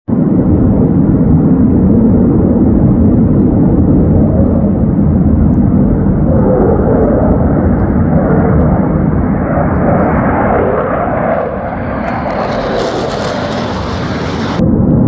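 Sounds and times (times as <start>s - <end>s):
jet aircraft flying past: 0.5s - 14.7s.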